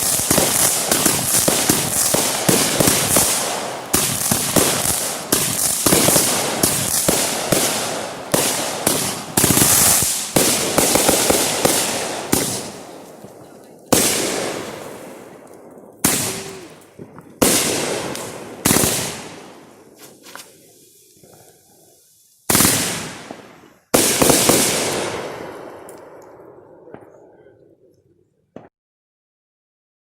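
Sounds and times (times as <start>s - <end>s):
fireworks bangs echoing: 0.0s - 20.4s, 22.5s - 27.4s.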